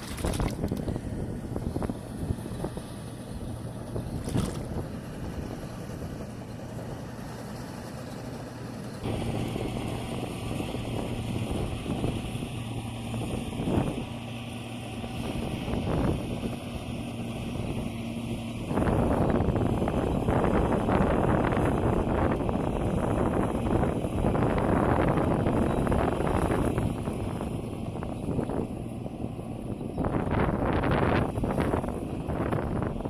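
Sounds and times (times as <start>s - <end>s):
small engine humming: 0.0s - 33.0s.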